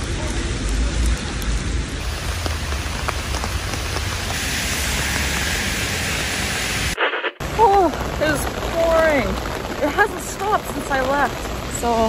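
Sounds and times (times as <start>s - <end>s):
raindrops striking close by: 0.0s - 12.0s
steady rain hiss: 0.0s - 12.0s.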